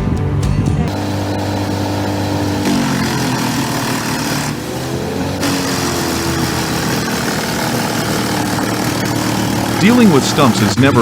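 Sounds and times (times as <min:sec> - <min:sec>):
heavy machinery engines running: 0:00.8 - 0:11.0.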